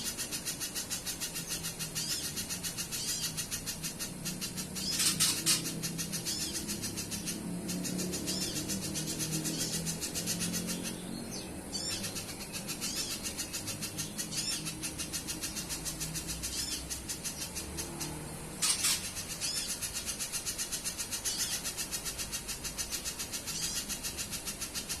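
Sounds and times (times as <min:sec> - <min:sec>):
bird chipping: 0:00.0 - 0:25.0.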